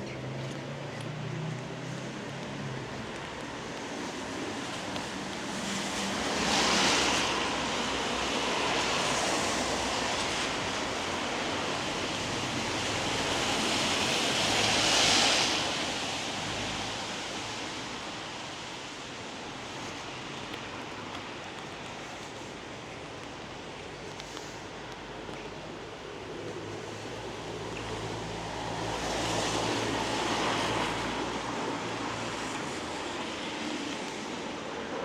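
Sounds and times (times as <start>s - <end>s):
tyres hissing on wet road: 0.2s - 35.0s.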